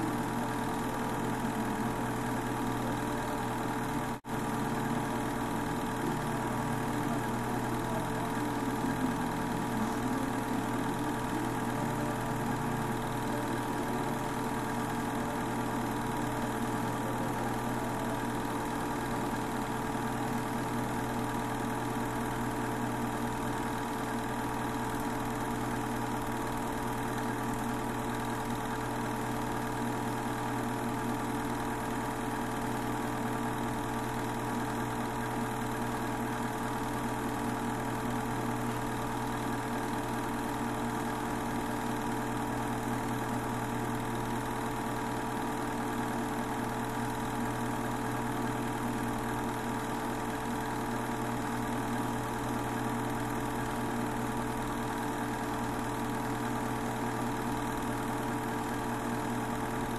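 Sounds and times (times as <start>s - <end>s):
film projector motor whirring: 0.0s - 59.9s.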